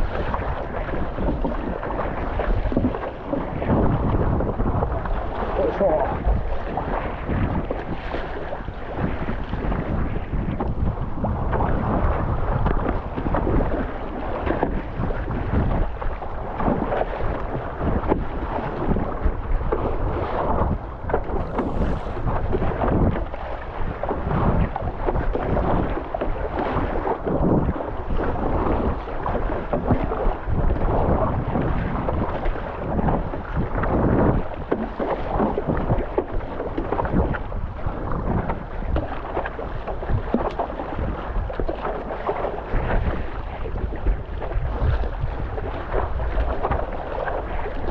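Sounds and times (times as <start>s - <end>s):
water splashing and rushing: 0.0s - 47.9s
wind buffeting microphone: 0.0s - 47.9s.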